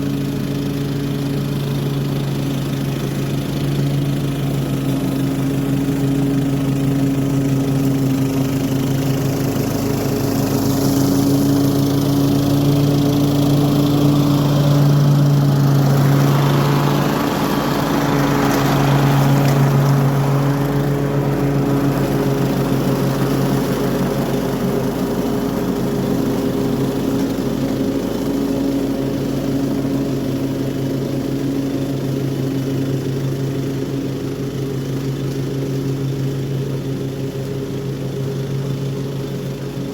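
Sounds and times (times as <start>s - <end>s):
lawn mower mowing grass: 0.0s - 39.9s.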